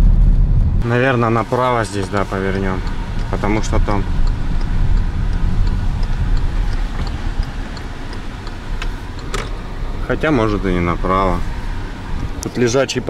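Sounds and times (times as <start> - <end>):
engine and tyres rumbling: 0.0 - 13.0
turn signal ticking: 1.1 - 13.0.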